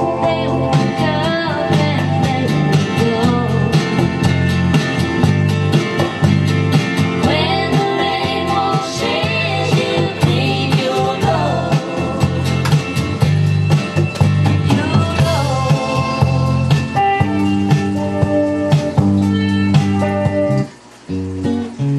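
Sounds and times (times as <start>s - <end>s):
song with guitar and drums: 0.0s - 21.9s.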